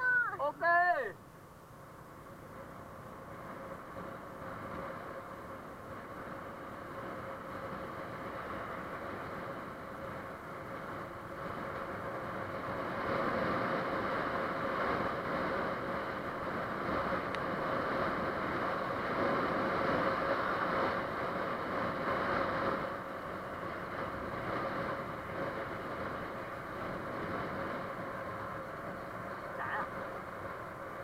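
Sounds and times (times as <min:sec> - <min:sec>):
wind and road noise: 0:00.0 - 0:31.0
motorcycle engine hum: 0:01.2 - 0:31.0.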